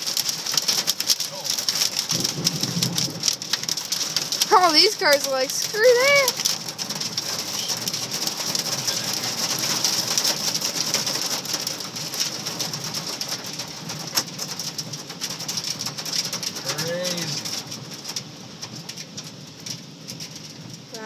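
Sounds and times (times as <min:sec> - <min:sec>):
hail and rain pelting a car: 0:00.0 - 0:21.0.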